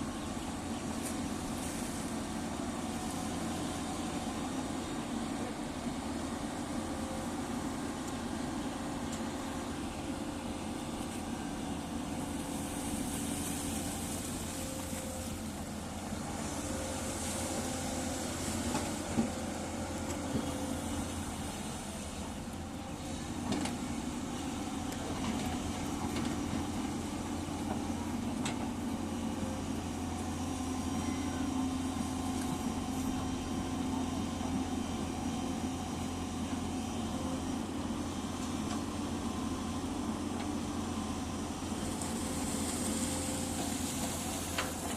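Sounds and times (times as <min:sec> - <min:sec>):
diesel excavator engines running: 0:00.0 - 0:44.9.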